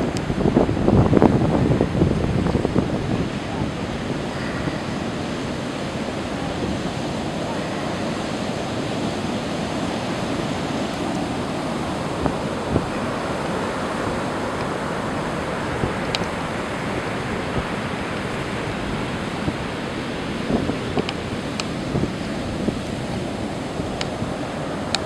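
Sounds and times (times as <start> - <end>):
waves breaking on beach: 0.0 - 25.0
wind rumbling on microphone: 0.0 - 25.0.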